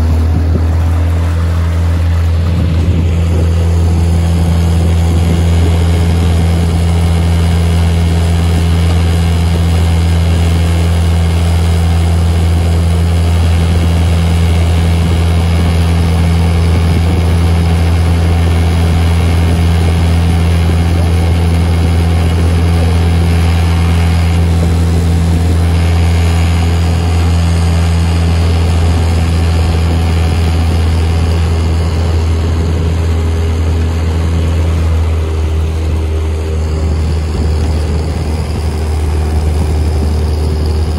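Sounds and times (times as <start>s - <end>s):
motorboat engine droning: 0.0s - 40.9s.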